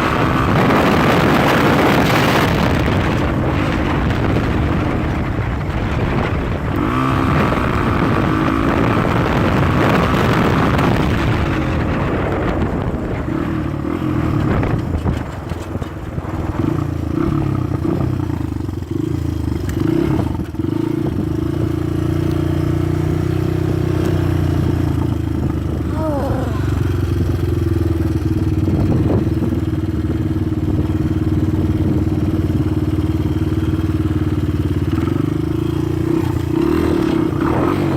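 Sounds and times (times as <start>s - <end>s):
dirt bike engine running: 0.0s - 37.9s
wind rushing over microphone: 0.0s - 37.9s.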